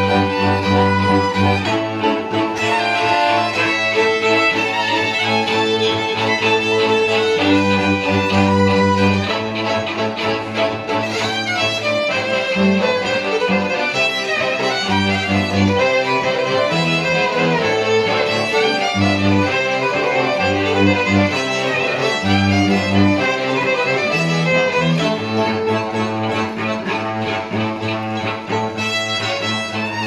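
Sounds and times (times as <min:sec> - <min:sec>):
cello bowing bass line: 0:00.0 - 0:30.0
fiddle playing melody: 0:00.0 - 0:30.0.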